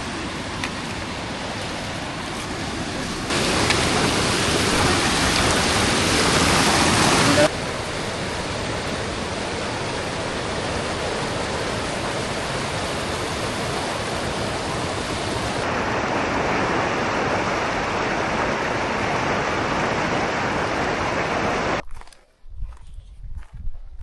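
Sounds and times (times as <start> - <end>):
creek water rushing: 0.0 - 21.8.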